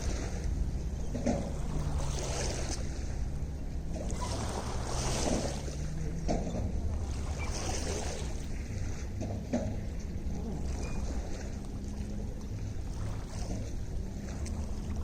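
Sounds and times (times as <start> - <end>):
small waves lapping and splashing: 0.0 - 15.0
wind rumble on microphone: 0.0 - 15.0.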